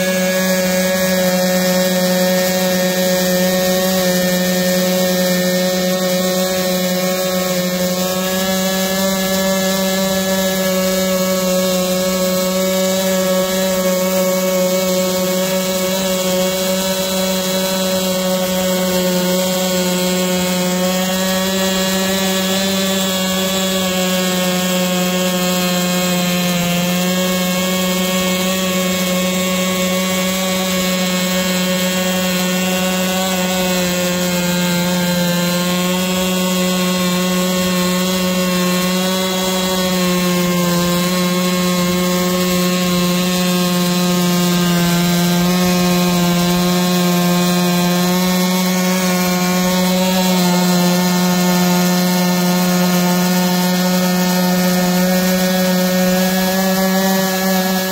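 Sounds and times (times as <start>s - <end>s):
chainsaw cutting through log: 0.0s - 57.9s.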